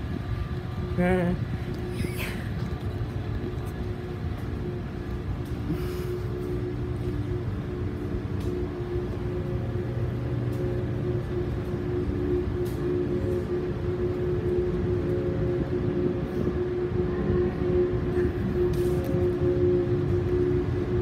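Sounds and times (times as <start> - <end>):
ship machinery drone: 0.0 - 21.0.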